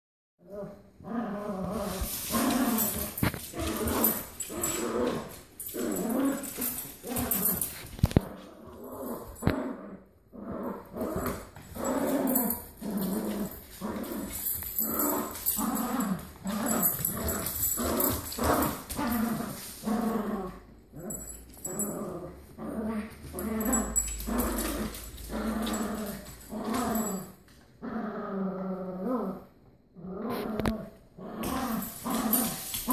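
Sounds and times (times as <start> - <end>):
dogs play-growling: 0.4 - 32.9.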